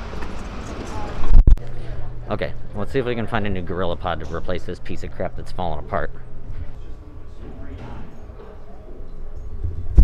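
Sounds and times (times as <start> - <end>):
faint store background noise: 0.0 - 10.0.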